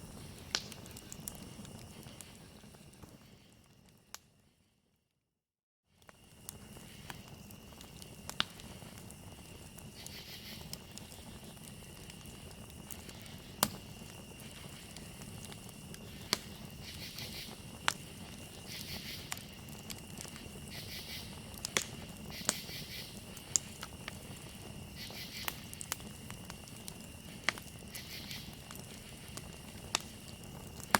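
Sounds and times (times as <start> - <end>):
cricket trill: 0.0 - 4.1, 6.0 - 30.9
rapid insect chirping: 0.0 - 4.1, 6.0 - 30.9
campfire crackling and popping: 0.0 - 4.4, 6.0 - 30.9.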